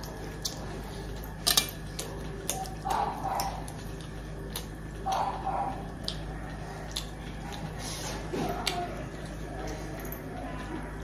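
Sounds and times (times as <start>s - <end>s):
chewing and mouth noises: 0.0s - 11.0s.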